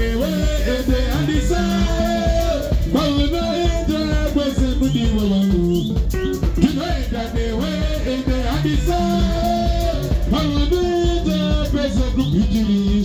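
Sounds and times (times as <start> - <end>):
drums beating: 0.0 - 13.0
electric bass guitar: 0.0 - 13.0
man singing: 0.0 - 13.0.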